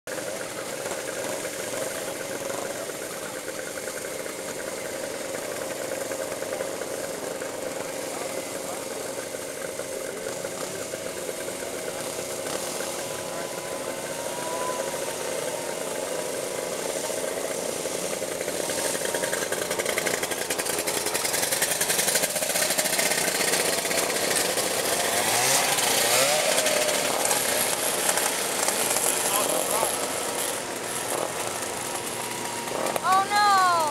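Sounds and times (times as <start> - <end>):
small engines running and idling: 0.1 - 33.9.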